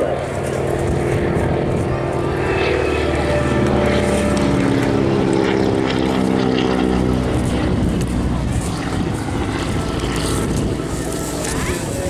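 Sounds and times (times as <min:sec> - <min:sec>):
biplane engine drone overhead: 0:00.0 - 0:12.0.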